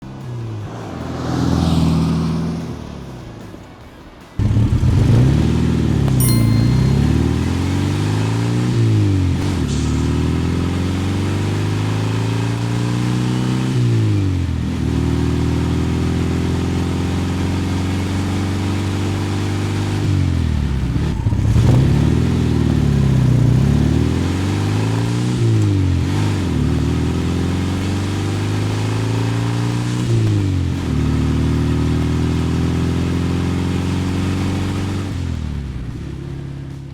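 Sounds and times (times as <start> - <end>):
car engine accelerating: 0.0 - 6.2, 7.0 - 36.8.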